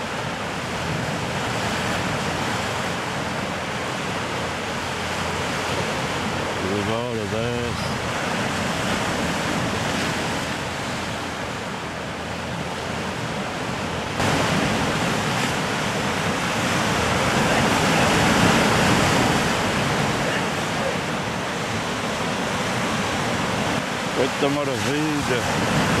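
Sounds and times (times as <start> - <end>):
surf breaking on rocky shore: 0.0 - 26.0.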